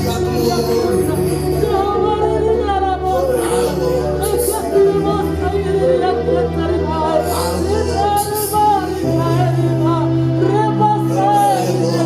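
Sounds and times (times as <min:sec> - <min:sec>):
bass line: 0:00.0 - 0:12.0
gospel singing: 0:00.0 - 0:12.0.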